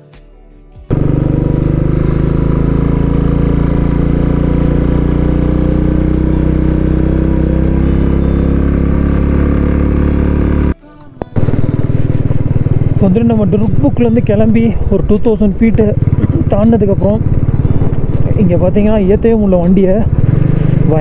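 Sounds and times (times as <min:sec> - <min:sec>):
motorcycle engine running: 0:00.9 - 0:21.0.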